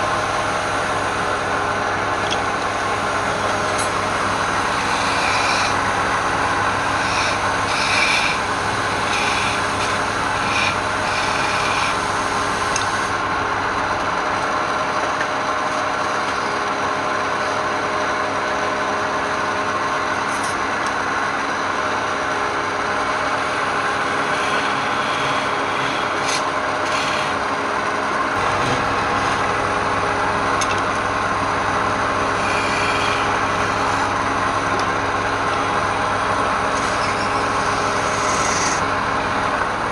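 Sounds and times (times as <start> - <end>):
tool scraping spinning wood: 0.0 - 13.3, 18.8 - 39.9
lathe motor running: 0.0 - 39.9.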